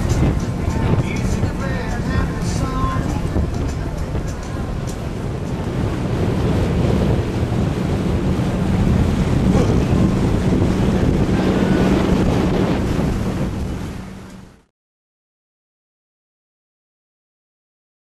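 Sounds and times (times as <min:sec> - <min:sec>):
boat engine humming: 0:00.0 - 0:14.7
water noise: 0:00.0 - 0:14.7
wind buffeting microphone: 0:00.0 - 0:14.7.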